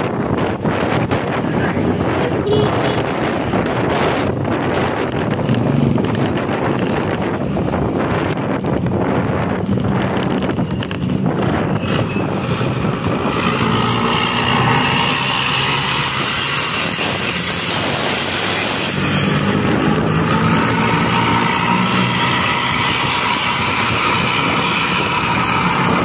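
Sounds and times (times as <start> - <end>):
road and wind noise: 0.0 - 26.0
vehicle engine drone: 0.0 - 26.0.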